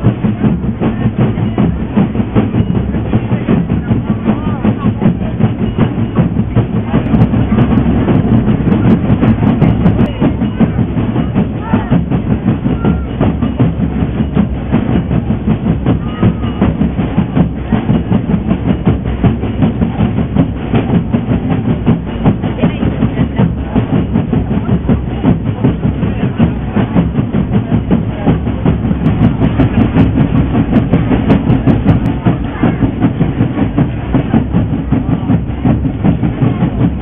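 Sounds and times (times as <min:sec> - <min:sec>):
boat engine chugging: 0:00.0 - 0:37.0.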